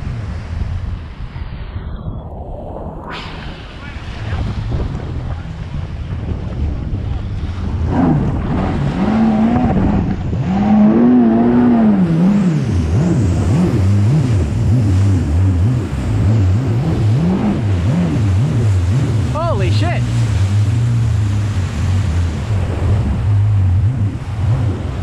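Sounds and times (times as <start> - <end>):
rush of wind and water: 0.0 - 25.0
jet ski engine revving: 4.2 - 25.0.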